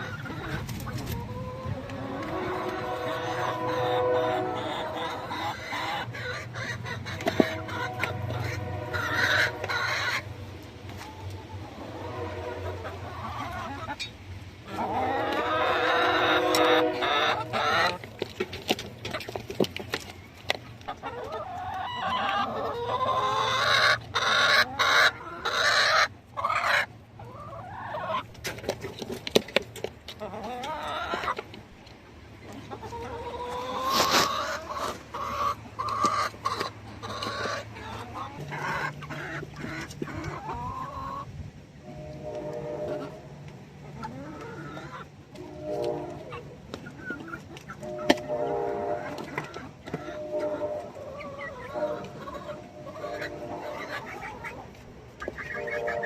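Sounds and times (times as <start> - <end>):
chickens clucking and squawking: 0.0 - 56.0.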